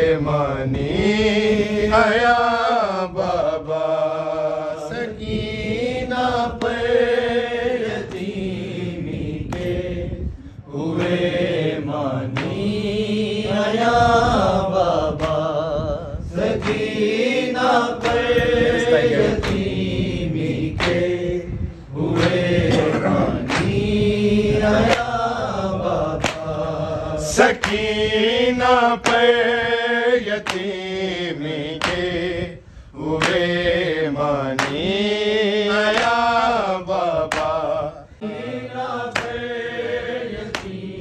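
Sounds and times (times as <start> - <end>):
man chanting a mournful lament: 0.0 - 40.6.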